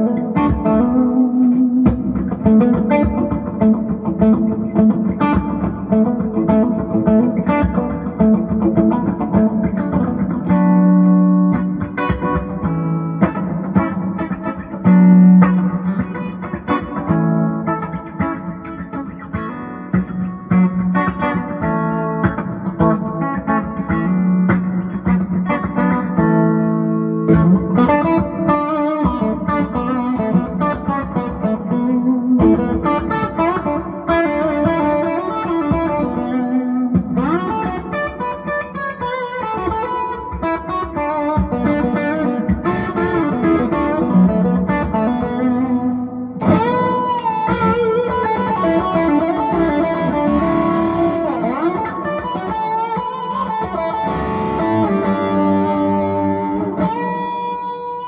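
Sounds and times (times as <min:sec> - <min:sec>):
amplified electric guitar: 0:00.0 - 0:58.0.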